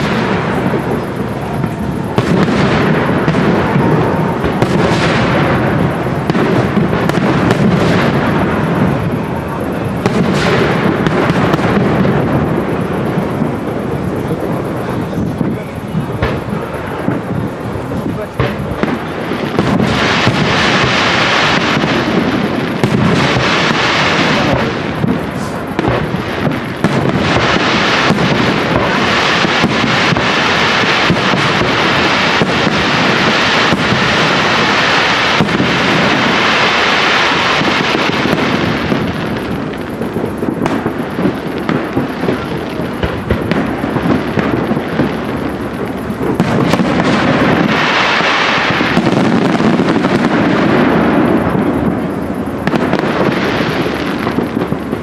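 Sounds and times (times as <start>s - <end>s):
firework shells bursting: 0.0s - 55.0s.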